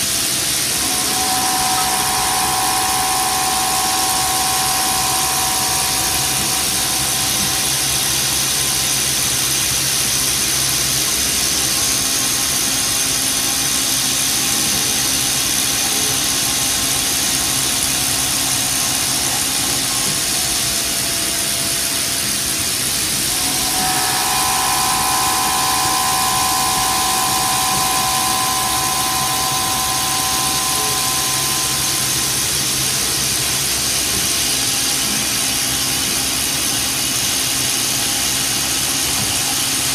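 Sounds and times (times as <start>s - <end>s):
high machine whine: 0.0s - 39.9s
milling machine cutting hiss: 0.0s - 39.9s.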